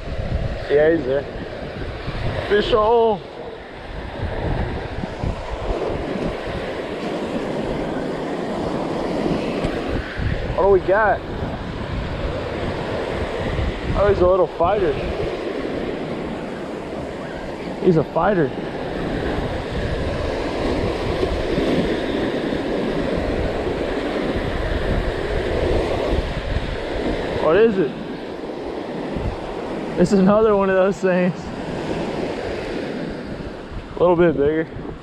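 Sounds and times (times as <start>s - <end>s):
ocean surf breaking: 0.0s - 35.0s
small waves washing onto beach: 0.0s - 35.0s
wind rumbling on microphone: 0.0s - 35.0s.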